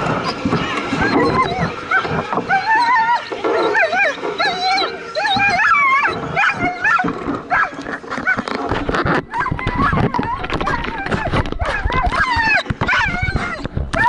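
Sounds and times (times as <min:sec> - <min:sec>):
sled dogs yelping and howling: 0:00.0 - 0:14.0.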